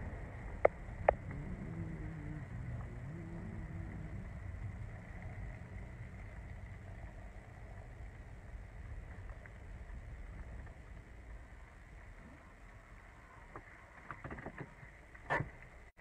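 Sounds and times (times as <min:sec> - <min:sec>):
car engine and road noise: 0:00.0 - 0:12.0, 0:12.9 - 0:16.0.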